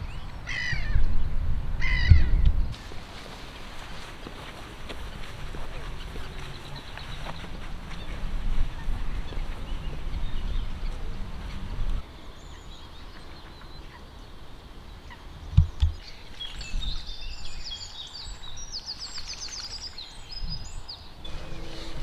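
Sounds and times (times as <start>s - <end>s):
small birds singing: 0.0s - 22.0s.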